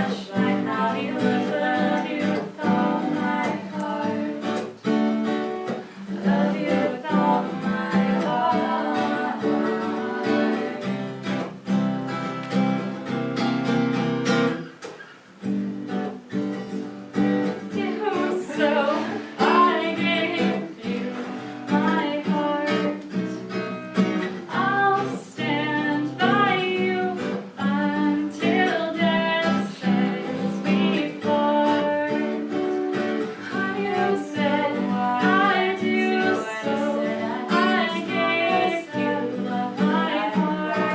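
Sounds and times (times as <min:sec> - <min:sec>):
women singing: 0:00.0 - 0:11.5, 0:17.5 - 0:40.9
acoustic guitar strummed and picked: 0:00.0 - 0:40.9.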